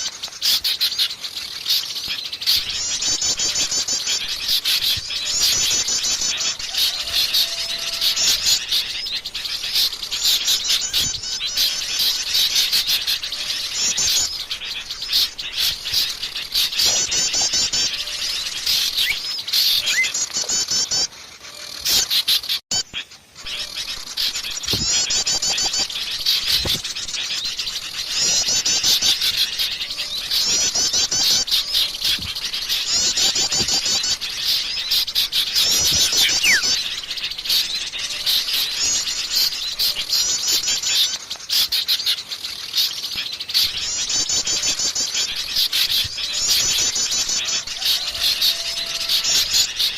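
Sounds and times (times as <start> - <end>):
songbirds chirping and twittering: 0.0 - 49.9.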